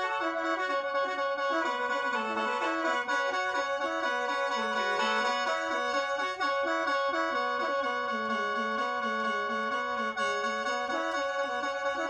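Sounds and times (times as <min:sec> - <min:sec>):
bamboo mouth organ melody: 0:00.0 - 0:12.0.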